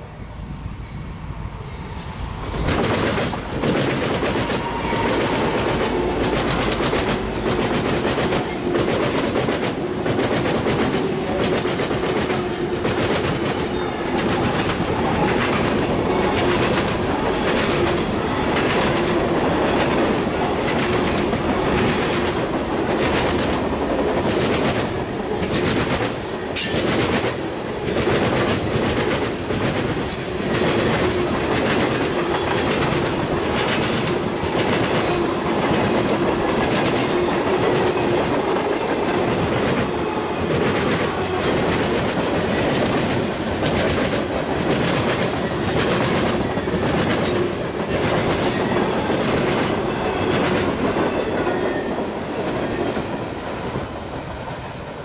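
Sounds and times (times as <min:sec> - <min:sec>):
train wheels clickety-clack: 0:01.7 - 0:55.0.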